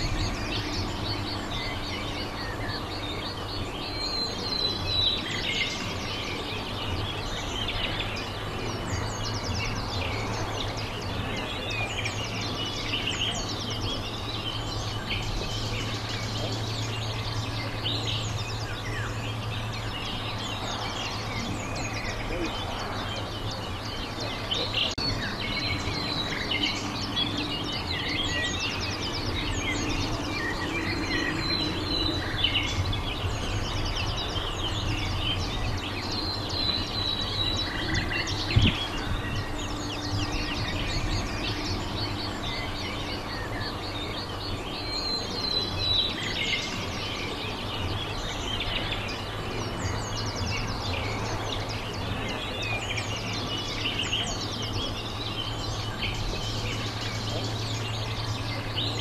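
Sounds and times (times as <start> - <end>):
low background hum: 0.0 - 59.0
small birds chirping: 0.0 - 59.0.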